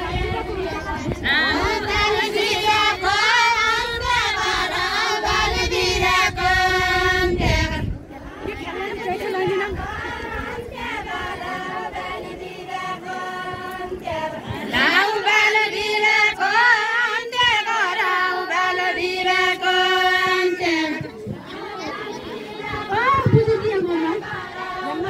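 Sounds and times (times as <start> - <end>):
women singing unaccompanied: 0.0 - 25.0.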